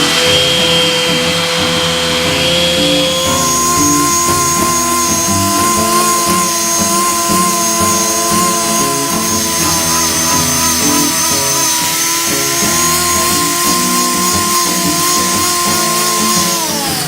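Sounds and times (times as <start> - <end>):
acoustic blues guitar music: 0.0 - 17.0
electric power tool whine: 0.0 - 17.0.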